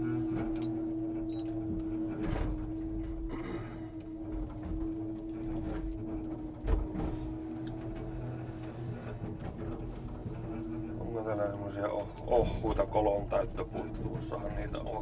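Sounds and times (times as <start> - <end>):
engine hum: 0.0 - 15.0
hydraulic crane whining: 0.0 - 15.0.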